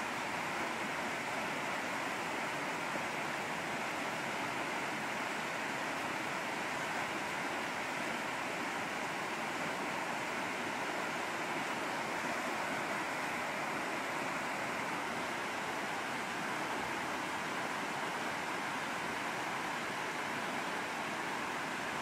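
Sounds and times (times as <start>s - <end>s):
water rushing over dam spillway: 0.0s - 22.0s.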